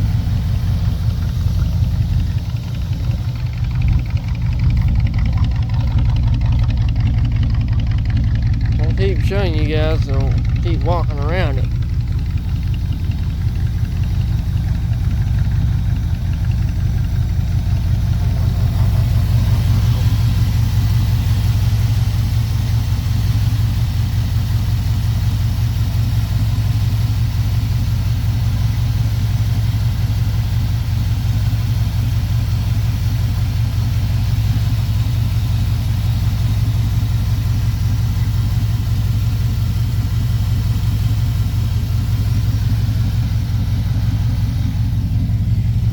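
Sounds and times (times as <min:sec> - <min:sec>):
pickup engine idling: 0:00.0 - 0:45.9.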